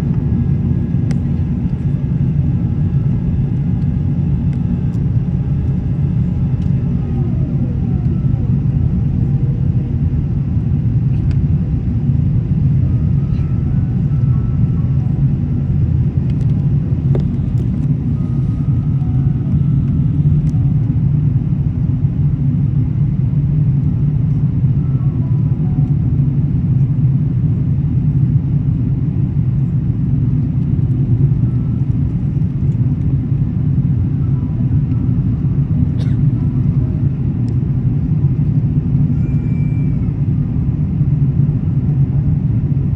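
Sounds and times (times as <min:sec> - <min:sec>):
airliner low rumble: 0:00.0 - 0:42.9.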